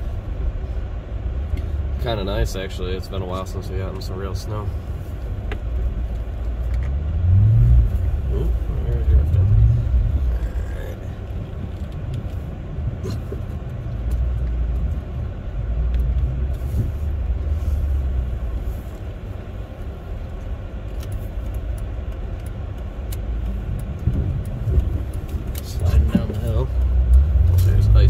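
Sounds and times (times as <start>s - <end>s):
car engine rumble from inside: 0.0s - 28.0s
tyres on snowy road: 0.0s - 28.0s.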